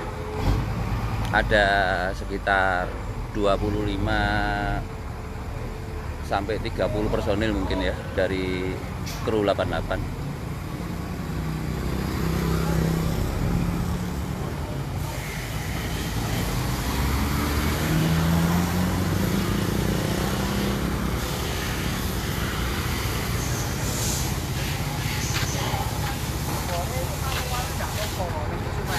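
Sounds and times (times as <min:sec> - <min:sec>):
heavy vehicle engine running: 0:00.0 - 0:28.9.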